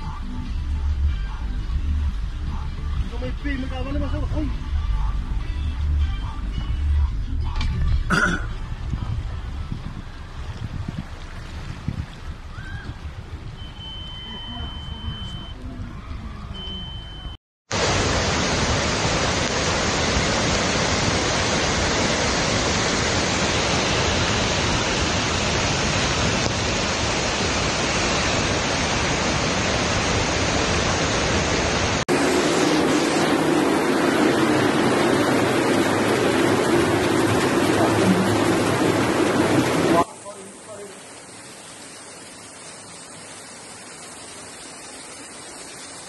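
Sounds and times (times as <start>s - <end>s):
flooded river rushing: 6.4s - 15.5s, 17.7s - 46.0s.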